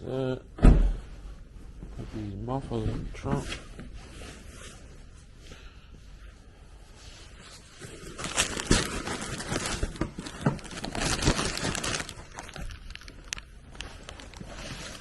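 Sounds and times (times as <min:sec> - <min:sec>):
rustling: 0:01.2 - 0:15.0.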